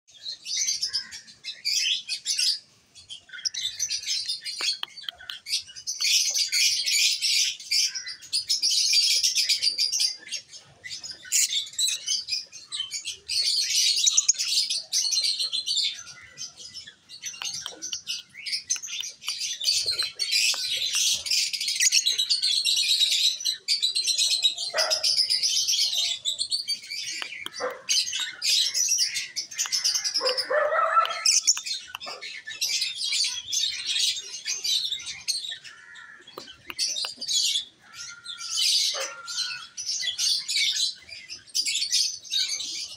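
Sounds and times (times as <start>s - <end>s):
lovebirds chirping: 0.1s - 42.9s.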